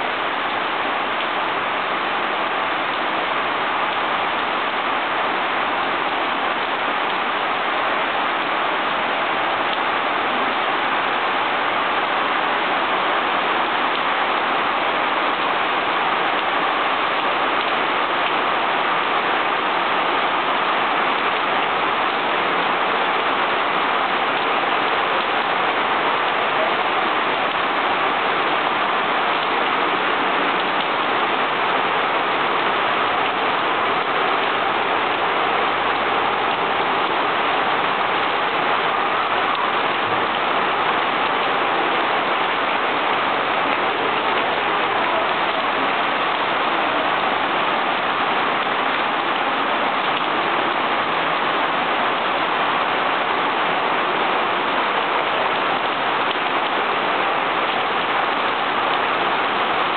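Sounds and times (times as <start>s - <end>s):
heavy rain on trees: 0.0s - 59.9s.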